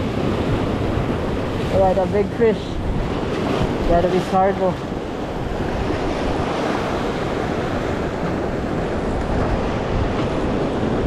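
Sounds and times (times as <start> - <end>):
surf washing against rocks: 0.0 - 11.0
wind noise on microphone: 0.0 - 11.0.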